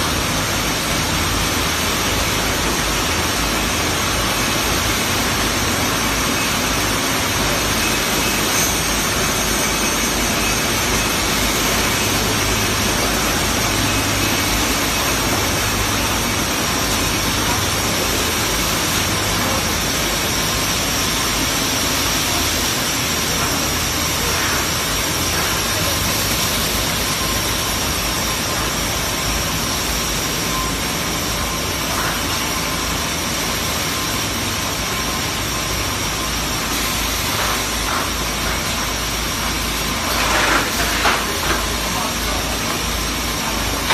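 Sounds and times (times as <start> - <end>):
machinery running: 0.0 - 43.9
steady high whine: 0.0 - 43.9.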